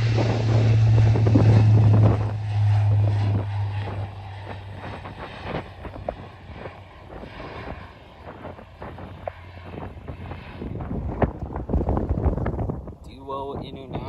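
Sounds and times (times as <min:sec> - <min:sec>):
distant aircraft noise: 0:00.0 - 0:14.0
wind buffeting microphone: 0:00.0 - 0:14.0.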